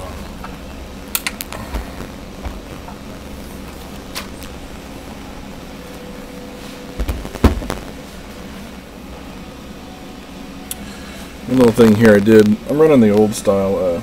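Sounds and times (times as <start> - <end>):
steady hiss and hum: 0.0 - 14.0.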